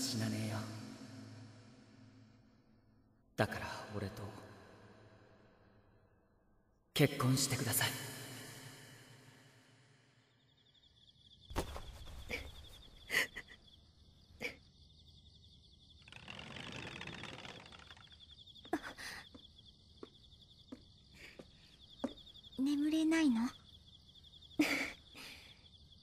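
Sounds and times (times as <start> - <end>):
insects chirping: 0.0 - 6.2, 6.9 - 26.0.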